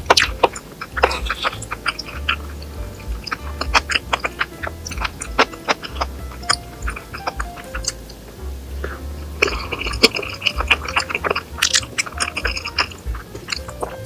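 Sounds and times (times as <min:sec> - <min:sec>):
background music: 0:00.0 - 0:14.0
chewing: 0:00.0 - 0:14.0.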